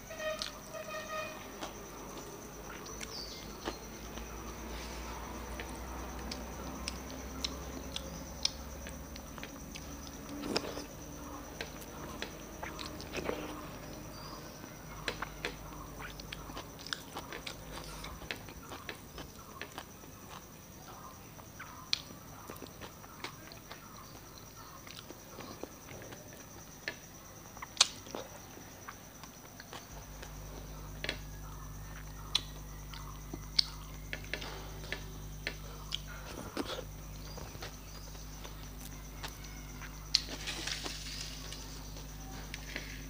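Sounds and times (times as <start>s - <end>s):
chewing and wet mouth sounds: 1.6s - 31.2s, 31.8s - 42.9s.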